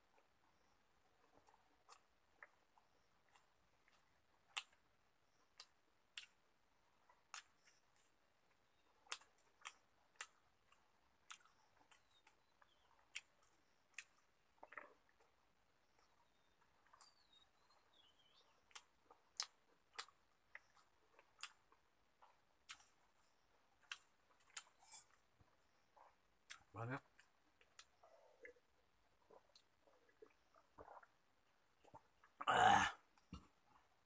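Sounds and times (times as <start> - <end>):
mouth clicks and lip smacks chewing: 1.2 - 32.4.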